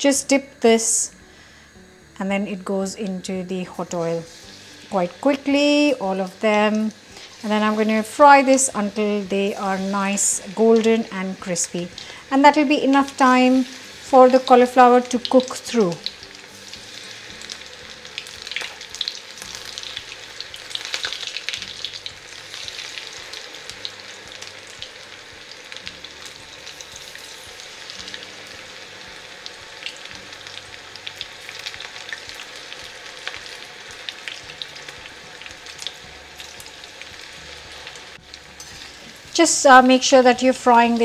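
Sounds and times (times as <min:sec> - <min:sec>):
batter deep-frying in oil: 0:03.2 - 0:41.0.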